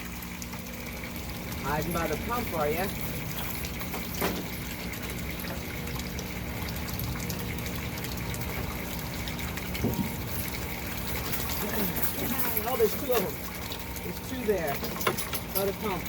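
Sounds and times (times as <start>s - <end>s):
water pump hum: 0.0s - 16.0s
water running and splashing: 0.0s - 16.0s.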